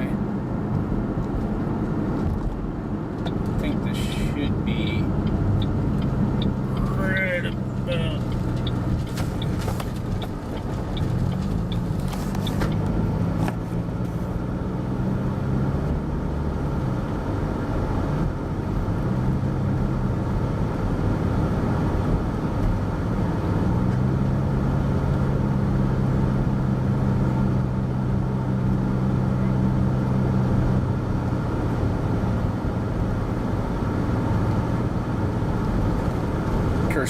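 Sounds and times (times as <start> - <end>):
car engine hum: 0.0 - 37.0
road noise: 0.0 - 37.0.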